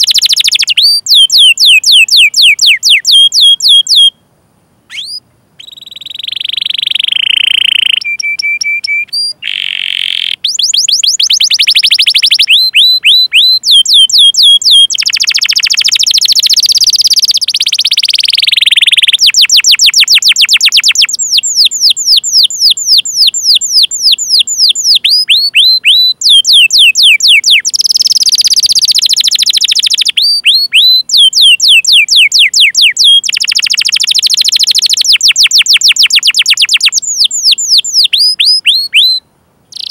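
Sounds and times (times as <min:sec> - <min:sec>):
canary singing: 0:00.0 - 0:04.2, 0:04.9 - 0:39.9.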